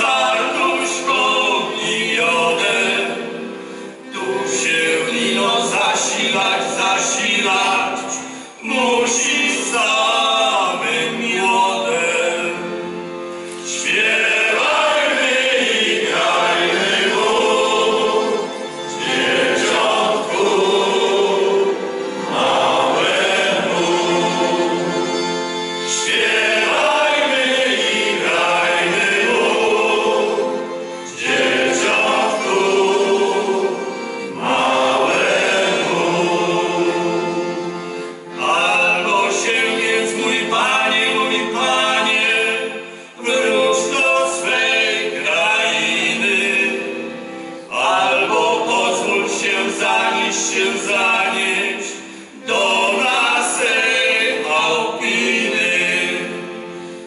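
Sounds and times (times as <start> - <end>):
accordion: 0.0 - 57.0
male choir singing in harmony: 0.0 - 57.0.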